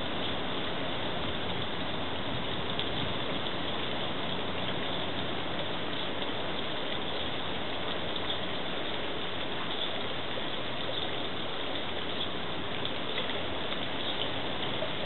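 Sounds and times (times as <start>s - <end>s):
fountain water running: 0.0s - 15.0s.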